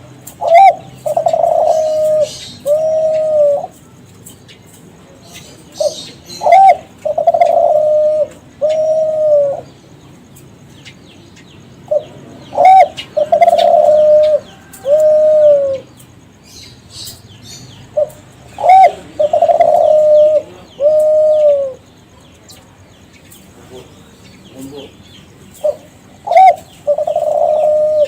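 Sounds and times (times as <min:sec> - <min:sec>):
dove cooing: 0:00.0 - 0:04.4, 0:05.0 - 0:10.5, 0:11.8 - 0:16.4, 0:17.0 - 0:22.2, 0:24.6 - 0:28.0.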